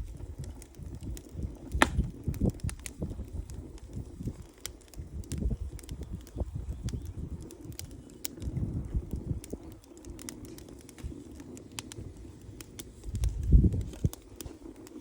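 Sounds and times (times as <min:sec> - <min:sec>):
campfire crackling and popping: 0:00.0 - 0:15.0
low uneven rumble: 0:00.0 - 0:15.0.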